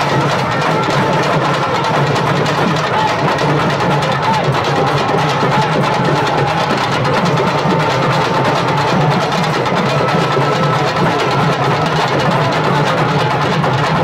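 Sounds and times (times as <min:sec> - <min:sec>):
fast drumming music: 0:00.0 - 0:14.0.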